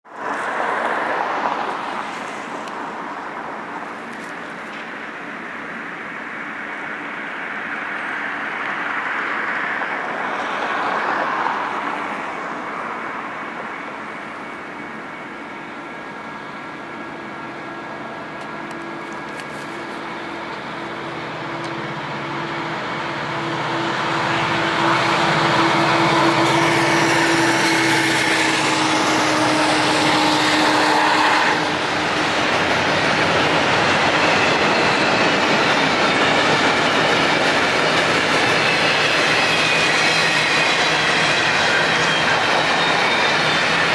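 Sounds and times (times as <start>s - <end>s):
diesel locomotive engines: 0.1s - 43.9s.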